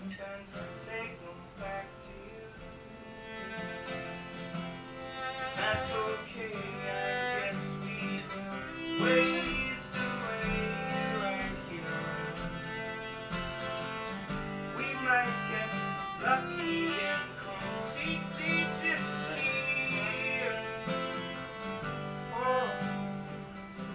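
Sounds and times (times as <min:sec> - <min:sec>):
acoustic guitar: 0:00.0 - 0:23.9
fiddle playing sliding notes: 0:00.9 - 0:23.9.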